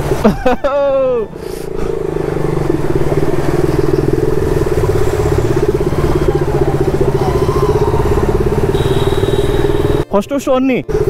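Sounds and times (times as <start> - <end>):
motorcycle engine running: 0.9 - 10.1.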